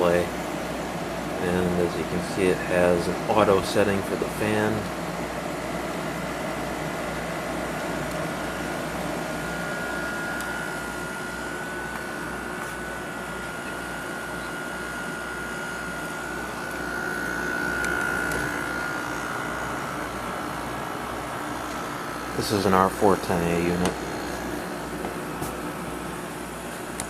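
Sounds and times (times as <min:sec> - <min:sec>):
air conditioner fan rushing: 0:00.0 - 0:27.0
compressor hum: 0:00.0 - 0:27.0
thin steady whine: 0:00.0 - 0:27.0.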